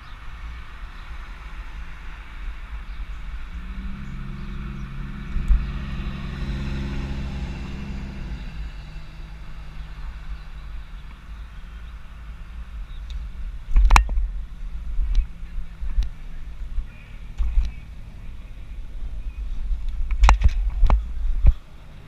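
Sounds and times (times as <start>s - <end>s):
wind rumble on microphone: 0.0s - 22.0s
motor vehicle passing: 0.3s - 19.8s.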